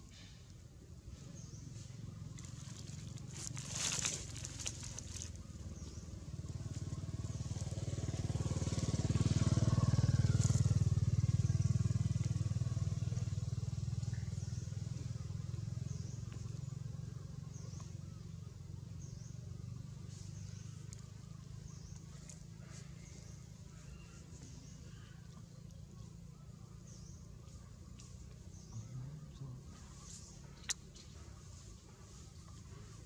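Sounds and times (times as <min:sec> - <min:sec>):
vehicle engine passing by: 0:01.1 - 0:33.0.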